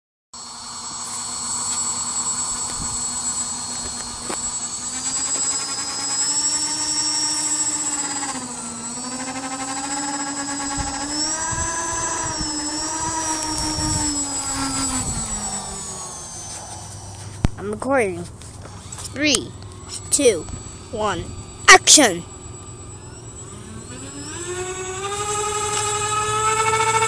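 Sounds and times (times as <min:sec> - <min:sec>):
electric ducted fans whining: 0:00.4 - 0:27.0.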